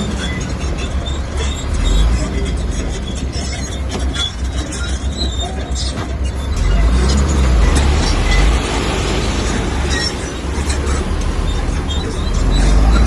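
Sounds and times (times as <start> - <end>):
bulldozer diesel engine rumbling: 0.0 - 13.0
steel tracks clanking and squealing: 0.0 - 13.0.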